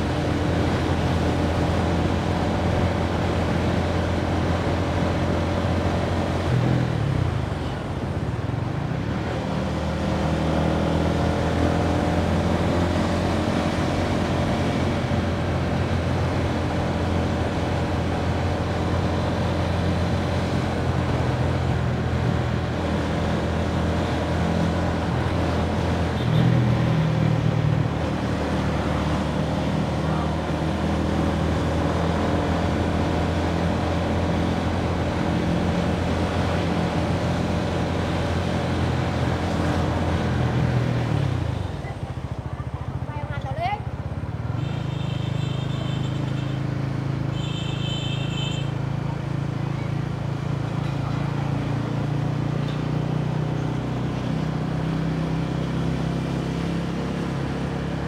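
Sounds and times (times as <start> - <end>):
scooter engine humming: 0.0 - 58.0
wind and road noise: 0.0 - 58.0.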